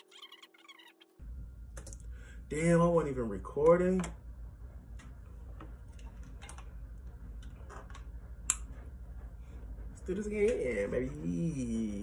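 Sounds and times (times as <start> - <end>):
steady low hum: 1.2 - 12.0.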